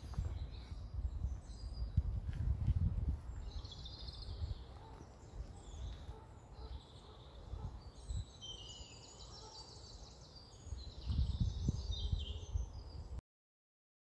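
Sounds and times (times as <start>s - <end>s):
small birds singing: 0.0s - 13.2s.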